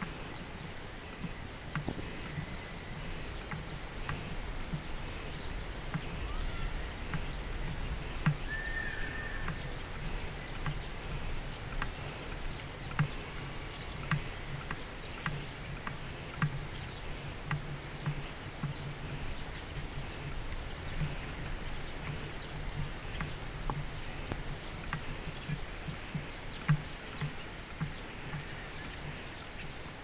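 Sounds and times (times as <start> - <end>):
footsteps on packed dirt: 0.0 - 29.9.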